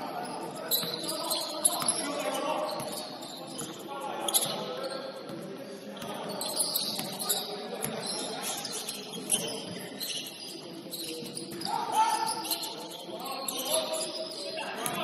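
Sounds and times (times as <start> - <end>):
sneakers squeaking: 0.0 - 15.0.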